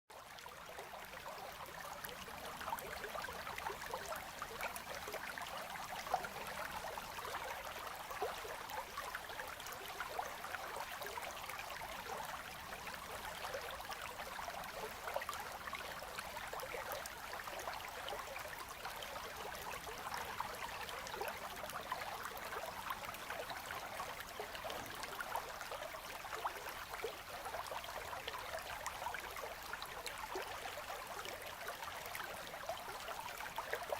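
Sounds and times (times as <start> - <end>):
river water trickling: 0.1 - 33.9.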